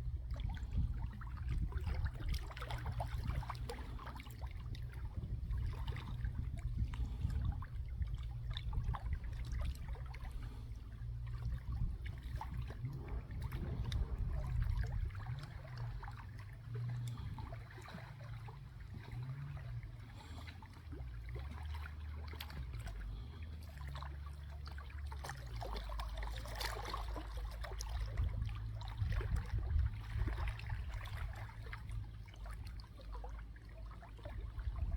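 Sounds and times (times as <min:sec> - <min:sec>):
low rumble: 0:00.0 - 0:34.9
water trickling and splashing: 0:00.0 - 0:34.9.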